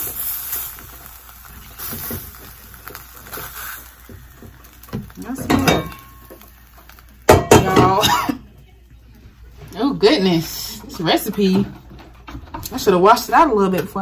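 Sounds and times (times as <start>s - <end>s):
frying pan sizzling faintly: 0.0s - 14.0s.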